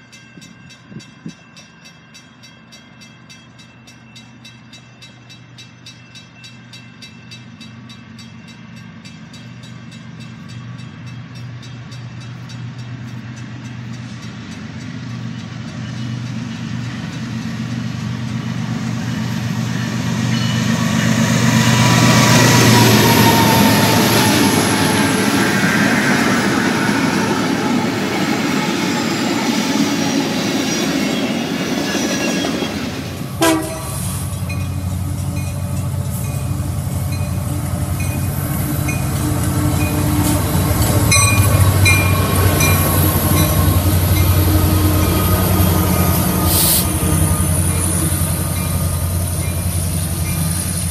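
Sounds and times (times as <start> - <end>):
diesel locomotive engines: 0.0 - 50.9
train wheels on rails: 0.0 - 50.9.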